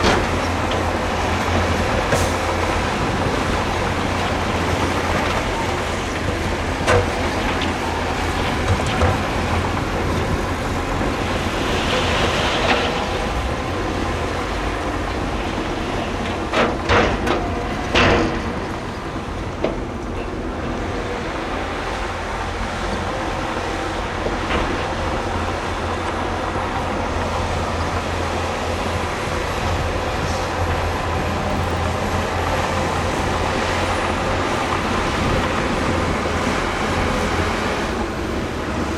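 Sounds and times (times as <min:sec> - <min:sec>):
diesel machinery rumbling: 0:00.0 - 0:38.9.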